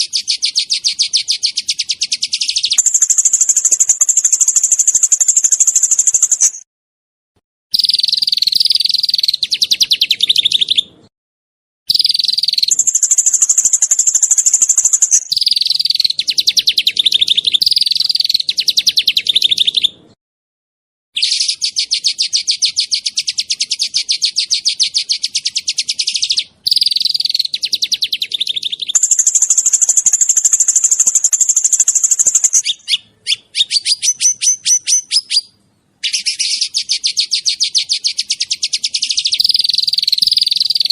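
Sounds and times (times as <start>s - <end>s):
songbird rapid trills: 0.0s - 6.6s, 7.8s - 10.8s, 11.9s - 19.7s, 21.2s - 40.9s.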